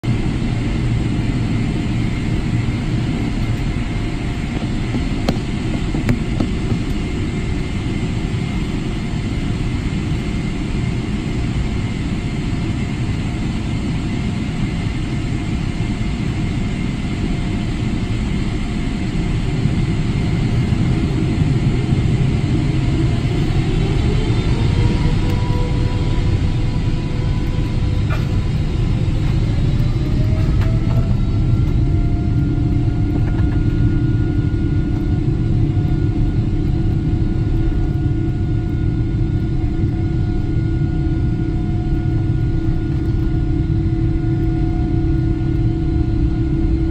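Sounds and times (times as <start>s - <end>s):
aircraft cabin rumble: 0.0s - 46.9s
jet engine whine: 0.0s - 46.9s.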